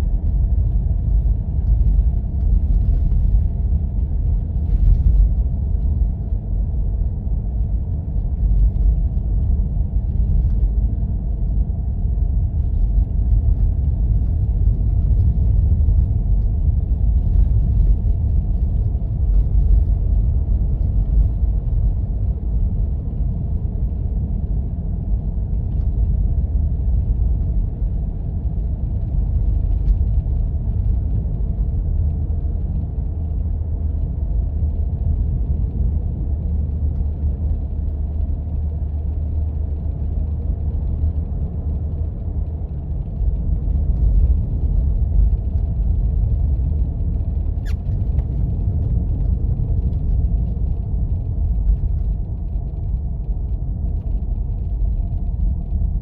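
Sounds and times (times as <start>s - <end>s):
vehicle driving on snowy road: 0.0s - 56.0s.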